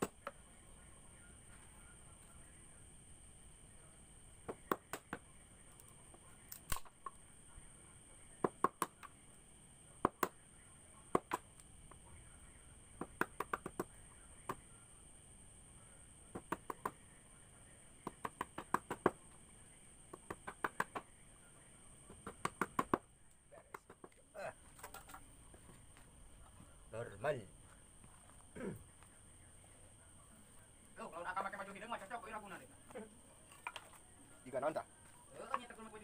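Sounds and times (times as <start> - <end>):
faint high-pitched whine: 0.0 - 36.0.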